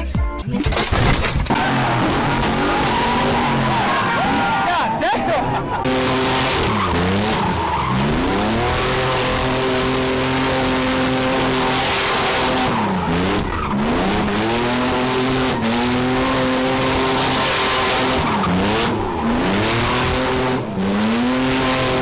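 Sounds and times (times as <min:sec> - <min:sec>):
tyres screeching: 0:00.6 - 0:20.6
car engine revving: 0:00.7 - 0:22.0.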